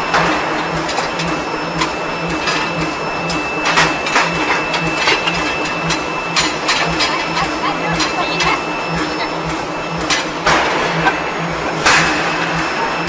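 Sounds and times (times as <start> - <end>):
constant high tone: 0.0 - 13.0
pulsing low machine hum: 0.0 - 13.0.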